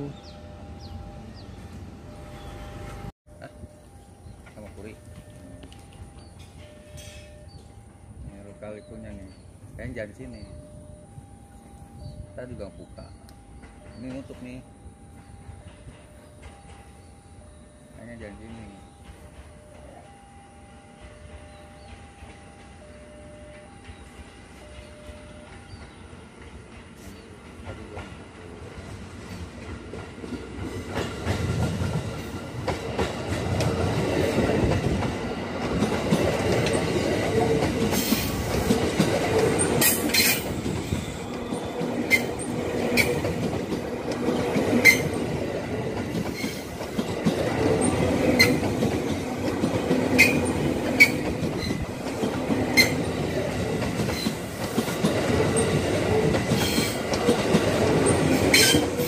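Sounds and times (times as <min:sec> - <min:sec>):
train wheels rumbling on rails: 0:00.0 - 0:59.0
wheels clicking over rail joints: 0:11.5 - 0:59.0.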